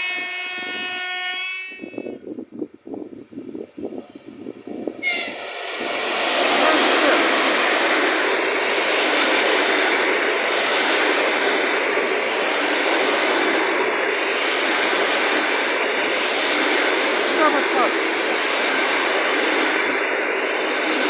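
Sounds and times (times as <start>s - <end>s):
train rushing past: 3.8s - 21.0s.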